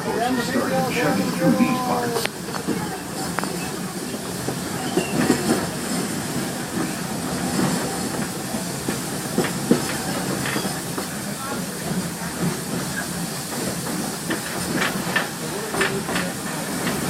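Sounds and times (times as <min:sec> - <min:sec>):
train car rolling rumble: 0:00.0 - 0:17.0.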